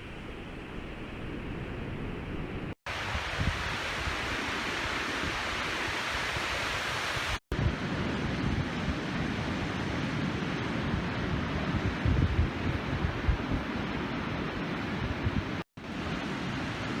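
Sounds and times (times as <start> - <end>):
wind buffeting microphone: 0.6 - 17.0
ocean surf rushing: 2.5 - 17.0.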